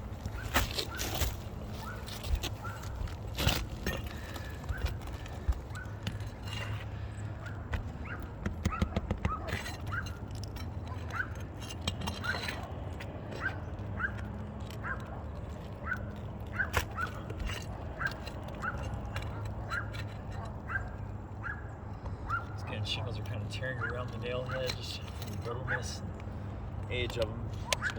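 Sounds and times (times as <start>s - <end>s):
pry bar scraping roofing nails: 0.1s - 22.6s.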